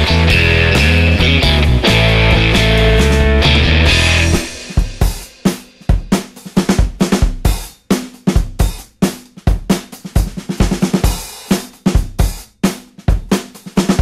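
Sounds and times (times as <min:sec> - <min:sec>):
drum kit beat: 0:00.0 - 0:14.0.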